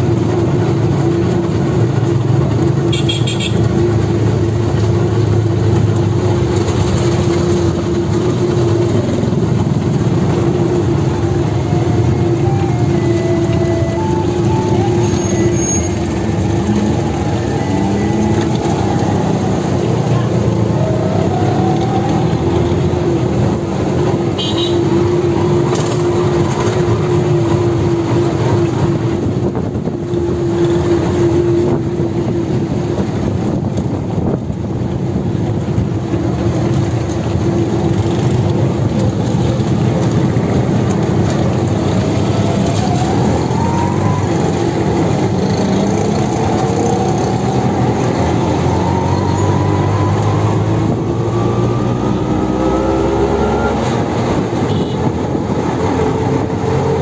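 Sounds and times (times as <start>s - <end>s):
auto-rickshaw engine running: 0.0s - 57.0s
road noise: 0.0s - 57.0s.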